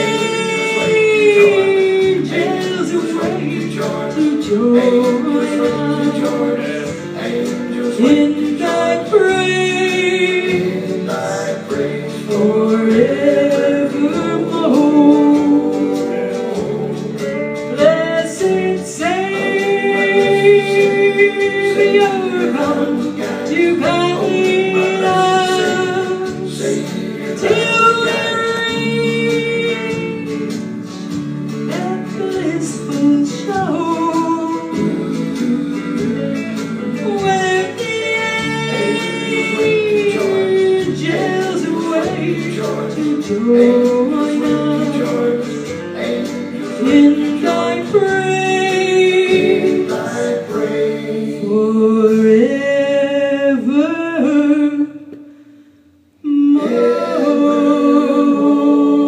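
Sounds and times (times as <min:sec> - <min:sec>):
woman singing gospel: 0:00.0 - 0:30.7, 0:31.7 - 0:55.2, 0:56.2 - 0:59.0
guitar accompaniment: 0:00.0 - 0:59.0.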